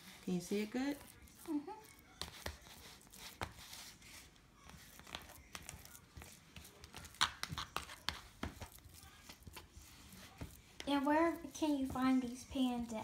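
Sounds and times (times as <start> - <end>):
wooden spoon scraping: 0.0 - 13.0.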